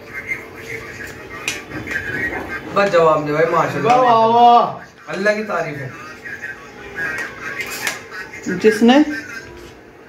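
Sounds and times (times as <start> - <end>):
faint murmur of voices: 0.0 - 10.0.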